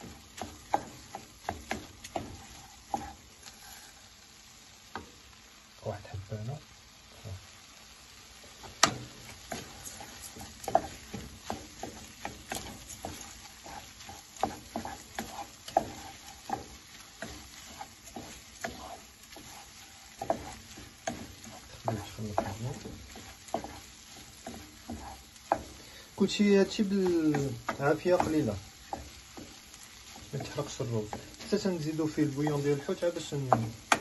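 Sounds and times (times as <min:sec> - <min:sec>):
wooden spoon scraping a pan: 0:00.0 - 0:05.2, 0:08.4 - 0:34.0
frying sizzle: 0:00.0 - 0:34.0.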